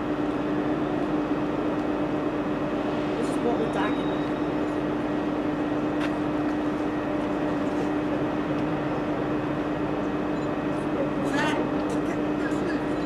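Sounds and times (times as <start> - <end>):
constant hum: 0.0 - 13.0
train engine drone: 0.0 - 13.0.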